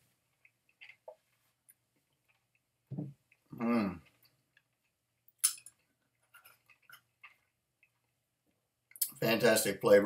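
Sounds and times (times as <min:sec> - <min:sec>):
quiet chewing: 0:00.0 - 0:09.1.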